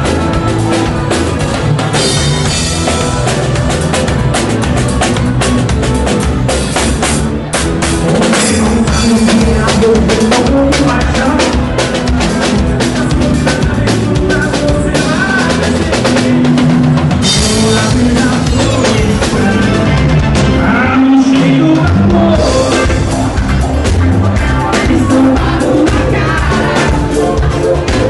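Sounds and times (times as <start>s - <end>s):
band playing instrumental: 0.0s - 28.0s
drum kit beat: 0.0s - 28.0s.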